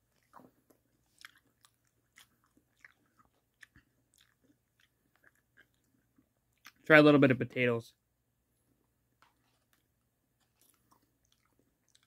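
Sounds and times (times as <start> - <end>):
chewing food: 0.0 - 6.8, 8.6 - 12.0.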